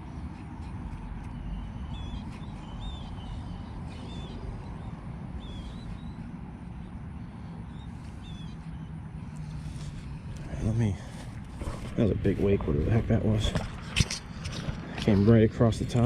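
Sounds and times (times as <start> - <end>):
bird chirping: 0.0 - 16.0
low outdoor rumble: 0.0 - 16.0.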